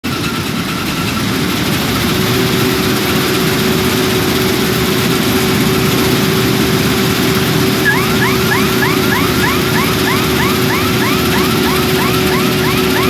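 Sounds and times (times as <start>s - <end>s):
combine harvester engine running: 0.1s - 13.0s.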